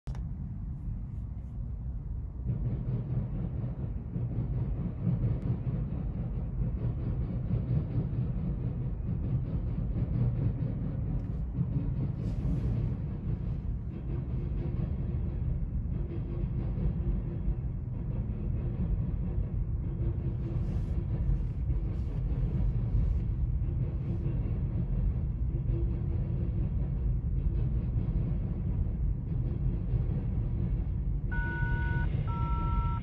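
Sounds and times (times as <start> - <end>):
diesel locomotives rumbling past: 0.1 - 33.0.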